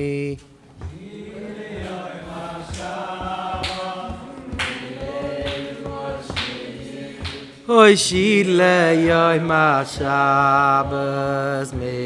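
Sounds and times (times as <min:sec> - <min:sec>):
group singing in unison: 0:00.8 - 0:12.0.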